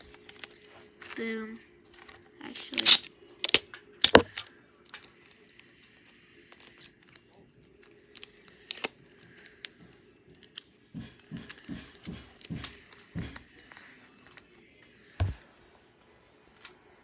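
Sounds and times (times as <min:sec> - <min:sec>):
tape clicking and crinkling: 0:00.0 - 0:15.4.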